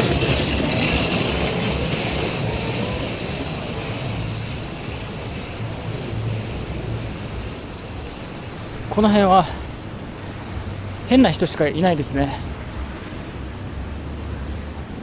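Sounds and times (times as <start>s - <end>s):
vehicle passing with low rumble: 0.0s - 15.0s.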